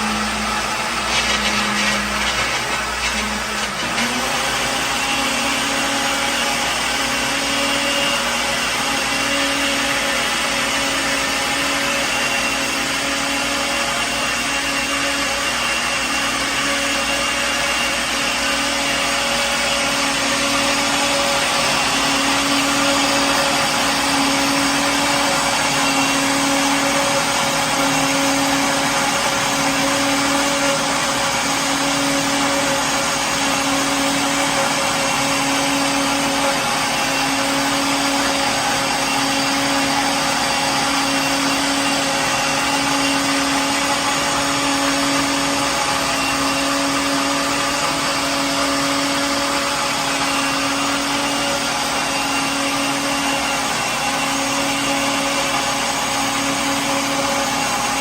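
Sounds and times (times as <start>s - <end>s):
blender motor whirring: 0.0s - 58.0s.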